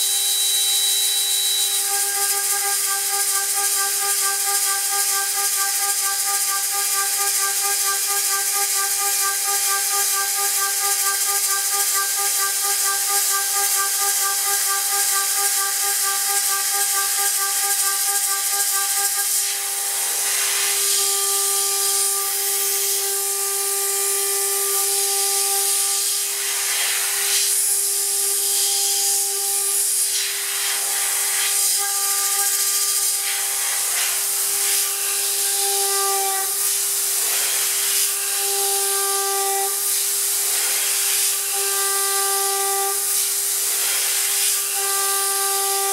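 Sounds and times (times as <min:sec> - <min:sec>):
cnc router spindle whine: 0:00.0 - 0:45.9
air-mist coolant hiss: 0:01.2 - 0:45.9.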